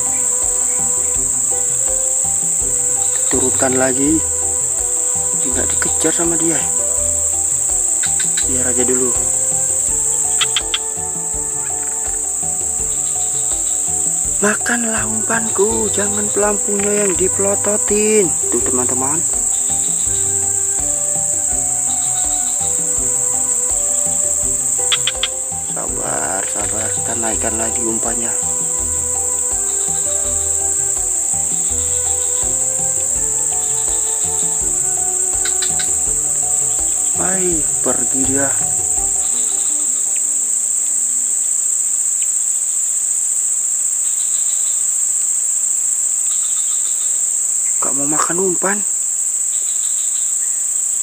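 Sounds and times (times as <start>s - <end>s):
soft background music: 0.0s - 41.9s, 45.6s - 50.6s
shrill insect chorus: 0.0s - 51.0s.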